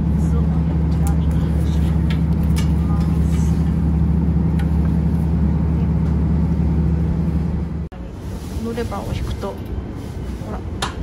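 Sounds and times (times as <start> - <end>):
diesel railcar engine drone: 0.0 - 11.0.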